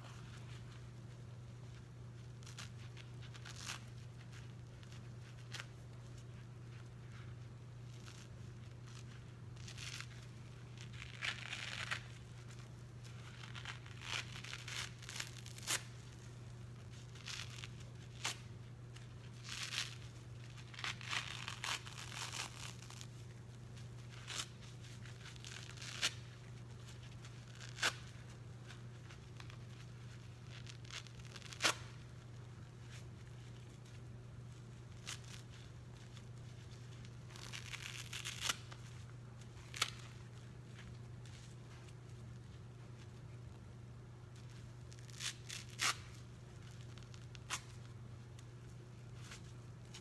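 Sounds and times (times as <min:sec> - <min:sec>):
wet sponge ripping and crackling: 0:01.7 - 0:43.3, 0:44.4 - 0:47.9.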